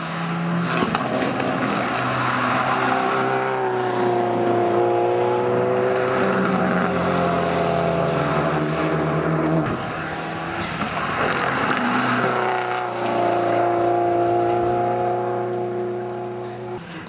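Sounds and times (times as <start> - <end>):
race car engine passing: 0.0 - 17.0.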